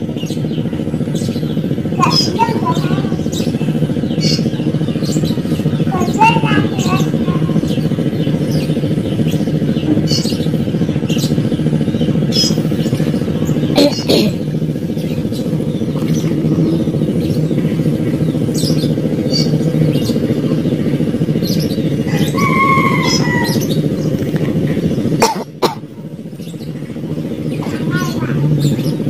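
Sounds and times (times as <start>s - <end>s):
birds chirping: 0.0s - 29.0s
small engine running: 0.0s - 29.0s.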